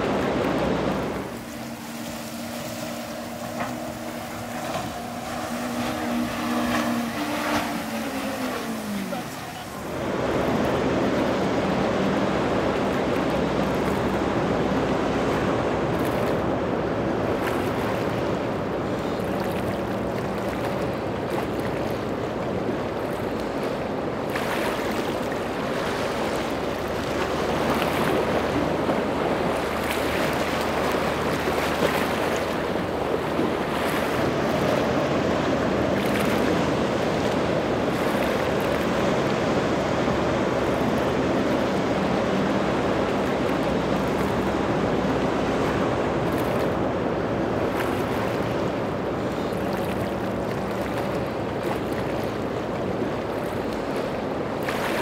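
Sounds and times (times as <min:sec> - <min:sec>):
boat engines running: 0:00.0 - 0:55.0
rough ocean waves: 0:00.0 - 0:55.0.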